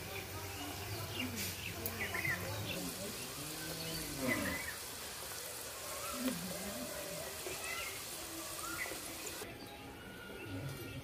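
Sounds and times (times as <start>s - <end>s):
oil sizzling: 0.0s - 9.5s.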